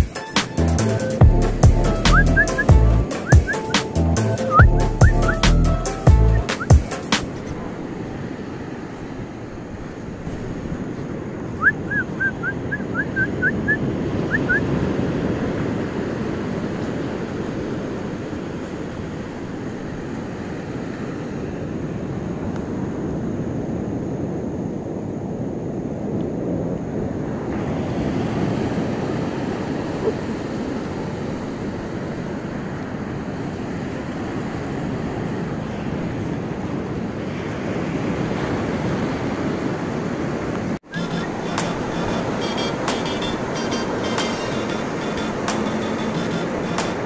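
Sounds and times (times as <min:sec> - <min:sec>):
wind and surf: 0:00.0 - 0:47.0.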